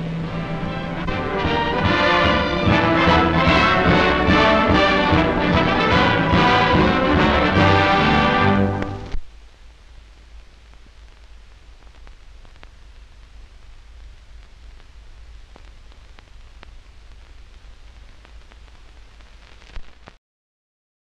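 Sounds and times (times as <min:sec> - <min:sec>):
low hum: 0:00.0 - 0:19.1
film soundtrack hiss: 0:00.0 - 0:20.2.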